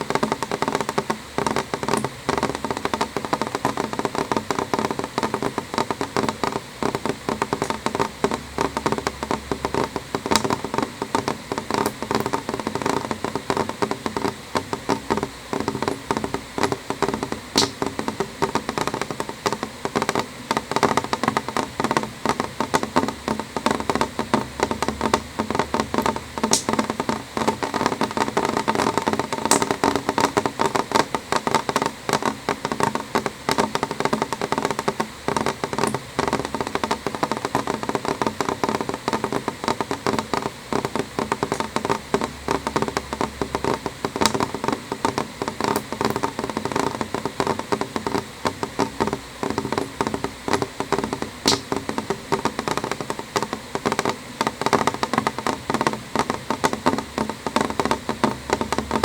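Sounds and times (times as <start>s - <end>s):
rain tapping on window glass: 0.0s - 59.0s.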